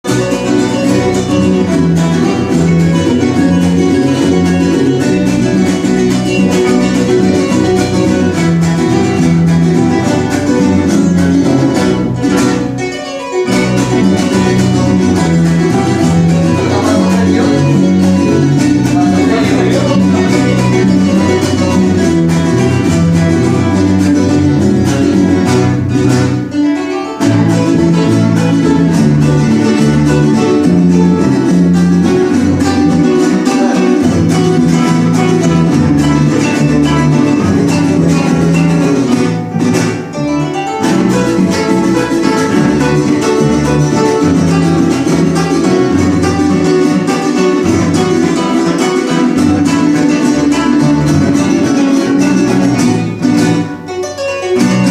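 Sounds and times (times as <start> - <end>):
flamenco guitar plucking: 0.0 - 54.9.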